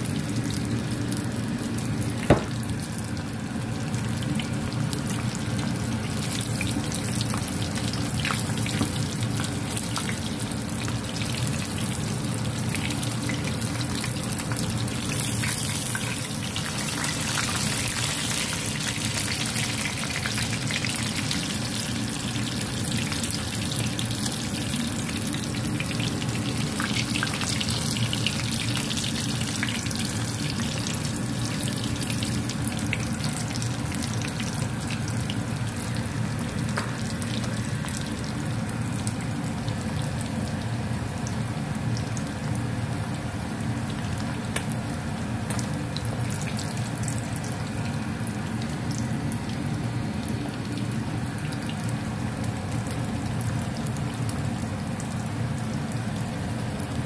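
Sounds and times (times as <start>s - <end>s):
fish sizzling in oil: 0.0s - 57.0s.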